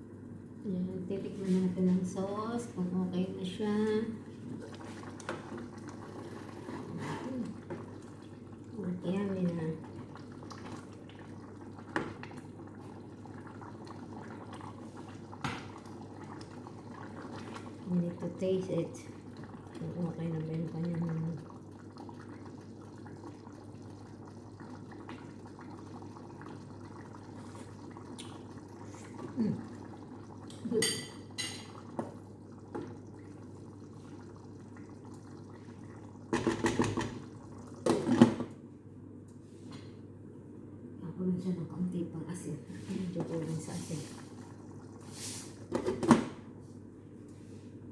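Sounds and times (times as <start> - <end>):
sauce bubbling in a pot: 2.0 - 39.2, 41.6 - 47.0.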